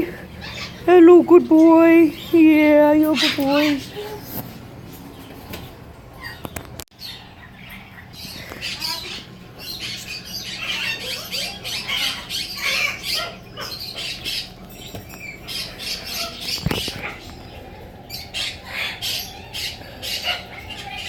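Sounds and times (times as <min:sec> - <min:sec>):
parrots squawking: 0:00.0 - 0:04.4, 0:06.1 - 0:21.0.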